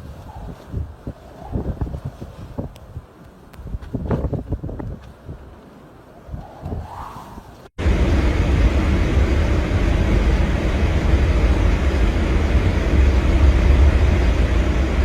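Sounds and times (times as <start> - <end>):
roar of blizzard wind: 0.0 - 15.0
wind buffeting microphone: 0.0 - 15.0.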